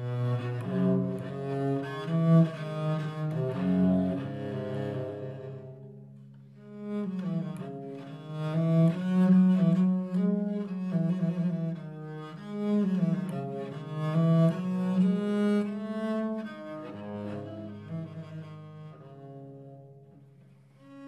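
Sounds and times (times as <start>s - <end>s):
bowed viol melody: 0.0s - 21.0s.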